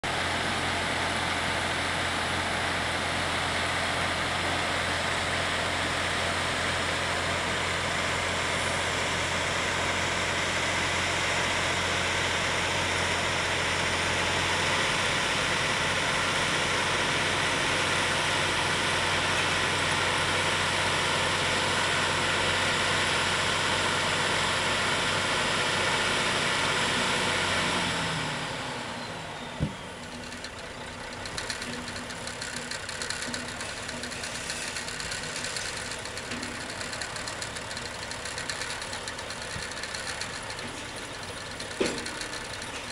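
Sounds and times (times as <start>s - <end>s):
heavy engines idling: 0.1s - 42.9s.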